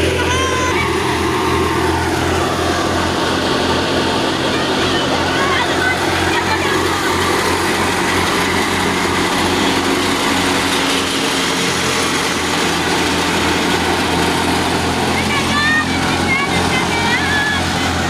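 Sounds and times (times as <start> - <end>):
diesel tractor engine running: 0.0 - 18.0
thresher rushing noise: 0.0 - 18.0.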